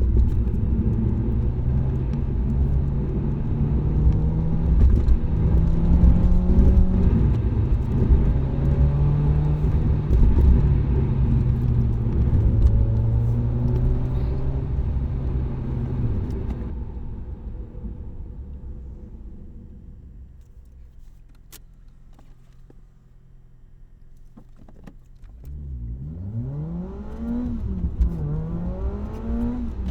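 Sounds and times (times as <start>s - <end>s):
car engine and exhaust rumbling: 0.0s - 29.9s.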